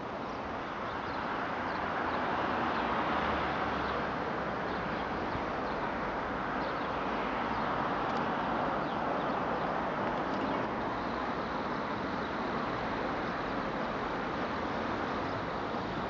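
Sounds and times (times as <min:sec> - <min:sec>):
hiss of wind or distant traffic: 0:00.0 - 0:16.0.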